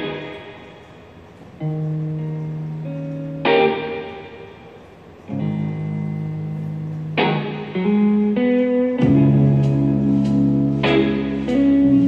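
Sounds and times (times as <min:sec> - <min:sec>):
slow guitar music: 0:00.0 - 0:12.0.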